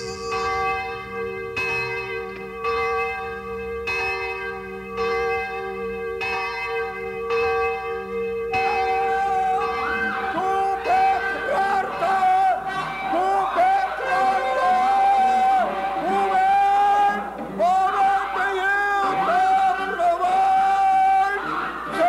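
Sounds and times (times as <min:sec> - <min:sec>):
bells ringing: 0:00.0 - 0:22.0.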